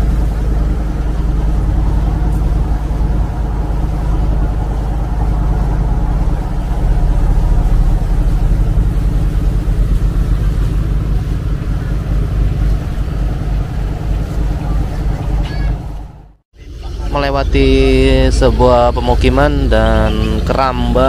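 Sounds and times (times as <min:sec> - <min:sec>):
boat engine droning: 0:00.0 - 0:21.0
water rushing along hull: 0:00.0 - 0:21.0.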